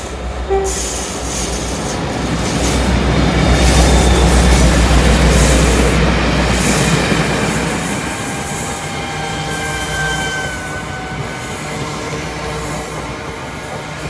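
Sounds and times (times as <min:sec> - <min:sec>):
freight train rumbling past: 0:00.0 - 0:14.0
high wheel squeal: 0:02.5 - 0:14.0.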